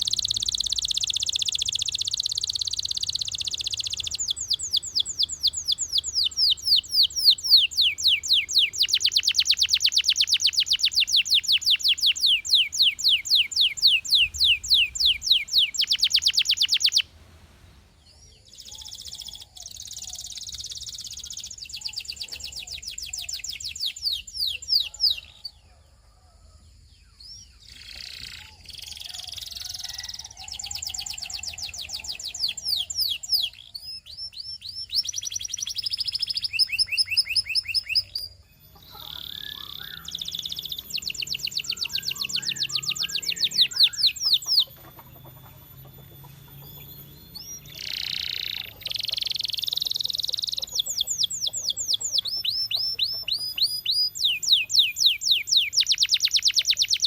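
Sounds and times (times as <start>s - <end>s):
canary singing trills: 0.0s - 26.4s, 27.0s - 57.0s.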